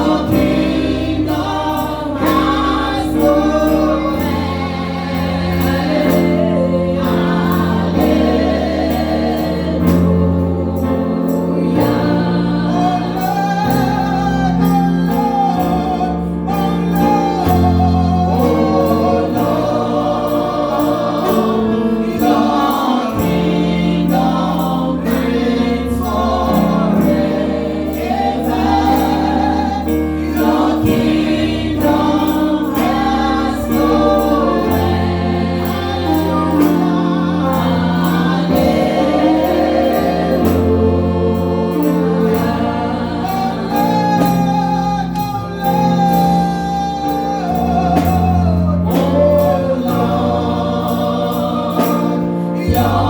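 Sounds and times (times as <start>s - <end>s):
backing band: 0.0s - 53.0s
gospel choir singing: 0.0s - 53.0s
sustained keyboard chords: 0.0s - 53.0s.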